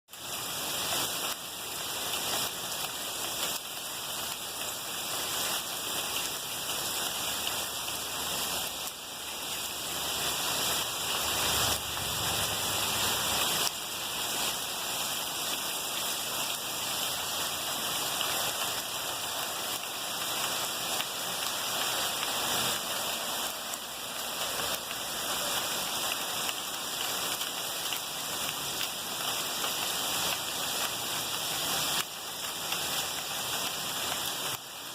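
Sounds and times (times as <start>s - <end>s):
heavy rain: 0.1s - 34.9s
running floodwater: 0.1s - 34.9s.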